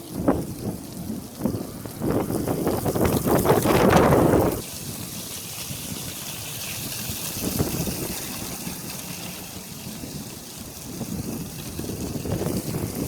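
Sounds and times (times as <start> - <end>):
wind gust buffeting microphone: 0.0 - 13.0
wind hiss: 0.0 - 13.0.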